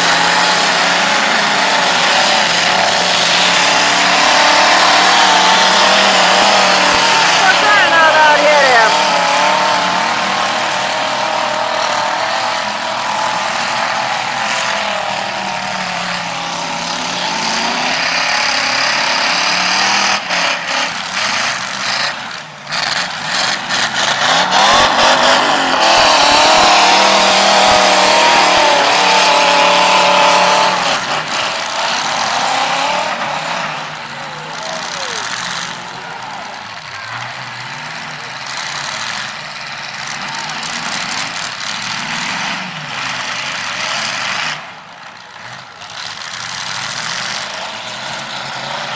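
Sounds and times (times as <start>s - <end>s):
car engines revving hard: 0.0s - 48.9s.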